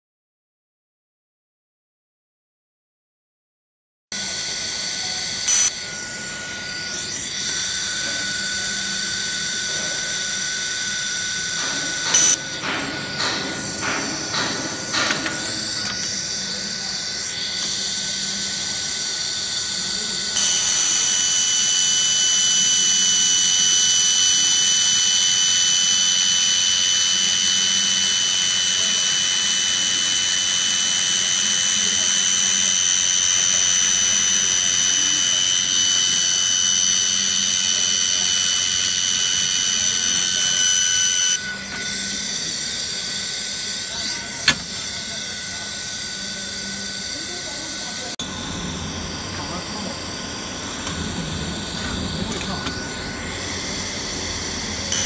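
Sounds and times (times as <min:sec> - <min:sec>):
high whine: 0:04.2 - 0:55.0
laser welder hissing: 0:04.2 - 0:55.0.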